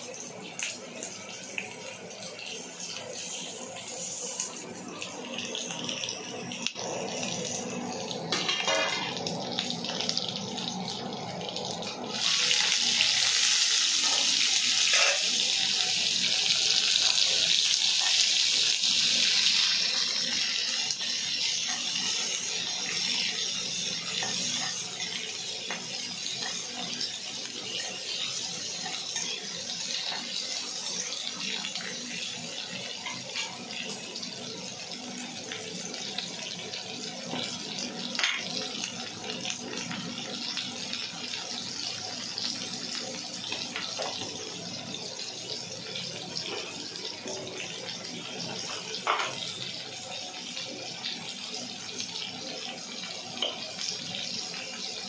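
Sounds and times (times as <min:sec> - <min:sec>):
oil sizzling: 0:00.0 - 0:55.0.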